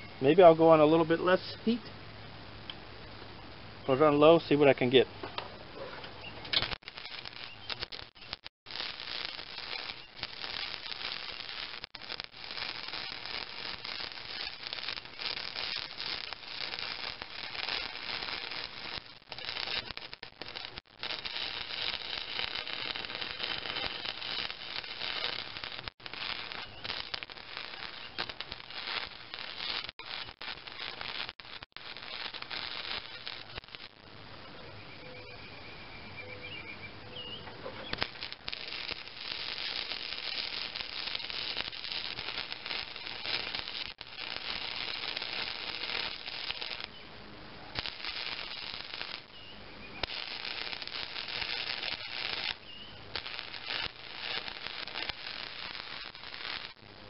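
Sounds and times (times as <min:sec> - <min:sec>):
arc welder crackling and sizzling: 0:00.0 - 0:34.3, 0:37.5 - 0:57.0.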